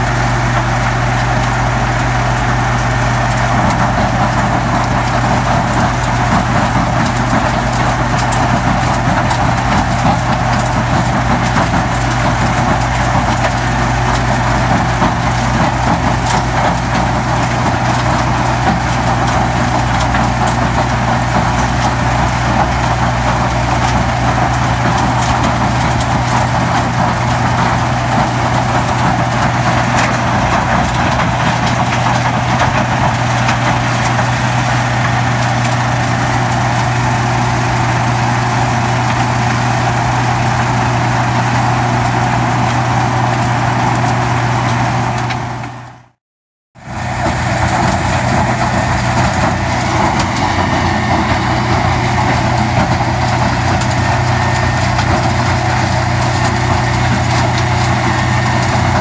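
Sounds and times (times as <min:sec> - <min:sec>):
engine humming: 0:00.0 - 0:46.2, 0:46.8 - 0:59.0.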